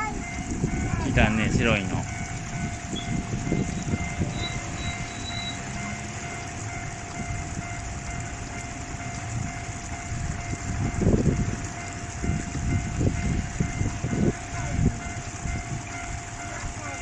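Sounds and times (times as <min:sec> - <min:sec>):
crossing warning bell dinging: 0:00.0 - 0:17.0
train wheel and rail noise: 0:00.0 - 0:17.0.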